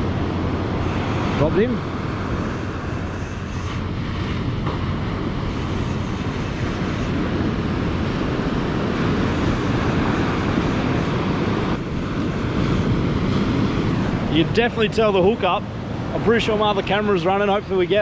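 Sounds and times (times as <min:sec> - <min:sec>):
breaking surf: 0:00.0 - 0:18.0
wind buffeting microphone: 0:00.0 - 0:18.0.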